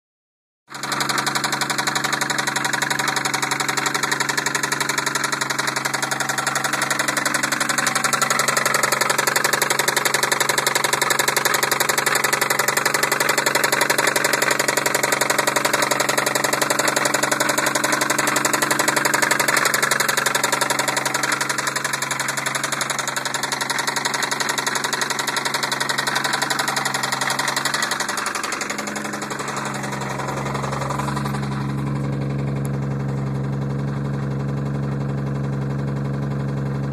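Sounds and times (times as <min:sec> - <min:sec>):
car engine knocking: 0:00.7 - 0:36.9.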